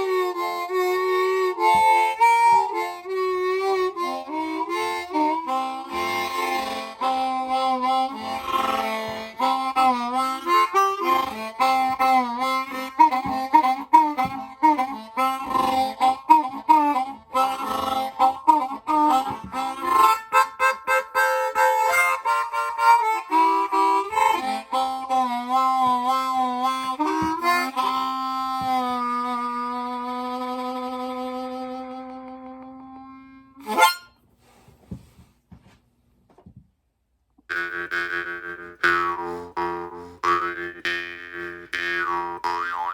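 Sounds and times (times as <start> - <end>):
harmonica playing blues: 0.0 - 34.2, 37.5 - 42.9.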